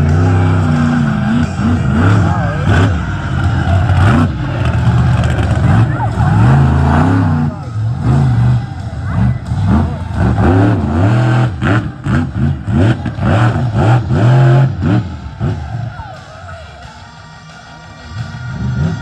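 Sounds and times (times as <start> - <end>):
truck engine revving hard: 0.0 - 16.3, 18.4 - 19.0.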